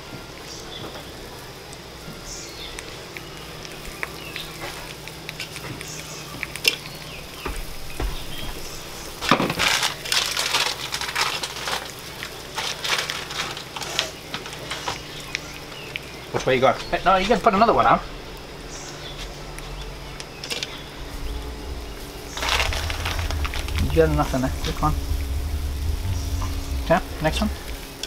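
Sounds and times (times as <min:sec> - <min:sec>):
batter sizzling on a griddle: 0:00.0 - 0:28.0.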